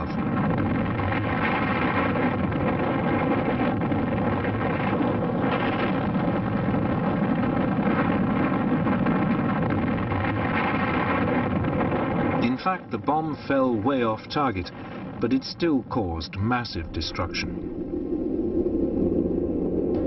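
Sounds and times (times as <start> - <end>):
explosion rumbling roar: 0.0 - 15.4, 16.4 - 20.0.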